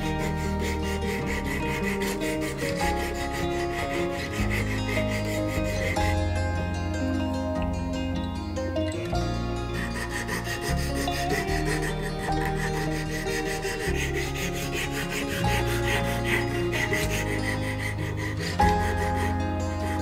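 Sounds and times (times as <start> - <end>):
sandpaper rasping on wood: 0.0 - 7.4, 9.2 - 20.0
background music: 0.0 - 20.0.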